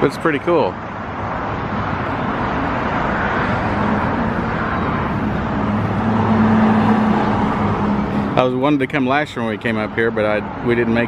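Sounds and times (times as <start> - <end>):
outdoor noise: 0.0 - 11.0.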